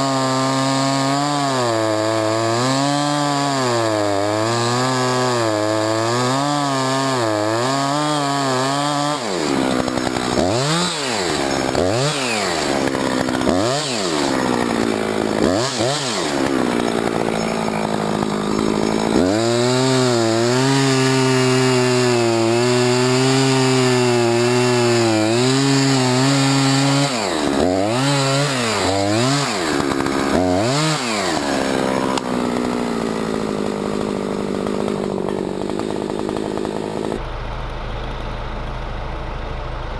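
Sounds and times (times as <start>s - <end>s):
chainsaw revving: 0.0s - 37.2s
chainsaw cutting wood: 0.0s - 37.3s.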